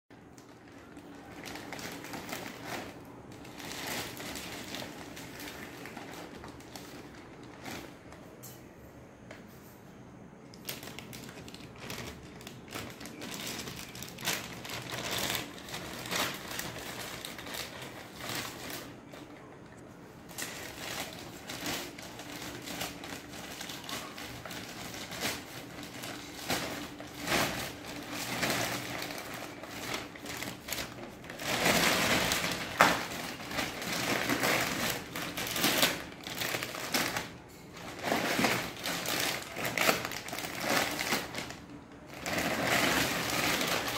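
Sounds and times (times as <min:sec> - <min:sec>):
plastic bag crinkling: 0:00.2 - 0:08.3, 0:10.4 - 0:43.9.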